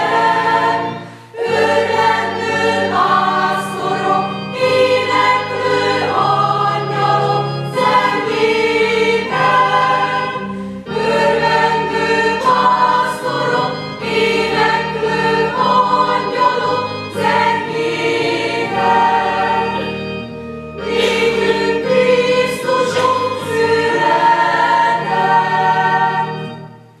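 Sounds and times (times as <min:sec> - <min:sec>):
mixed choir singing: 0:00.0 - 0:20.0, 0:20.8 - 0:26.8.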